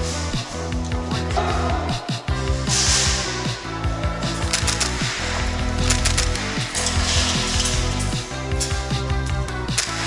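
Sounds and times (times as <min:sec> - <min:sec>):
music with heavy bass-drum beat: 0:00.0 - 0:10.0.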